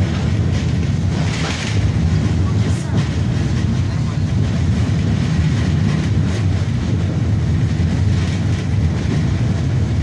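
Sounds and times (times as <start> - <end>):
tram rumbling along rails: 0.0 - 10.0.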